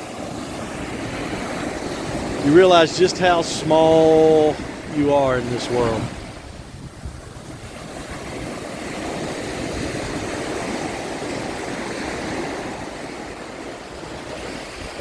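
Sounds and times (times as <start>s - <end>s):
surf washing onto beach: 0.0s - 15.0s.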